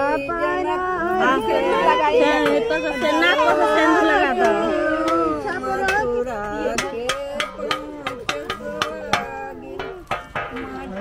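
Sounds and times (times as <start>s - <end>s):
voices singing folk song: 0.0s - 11.0s
drum beating: 1.3s - 11.0s.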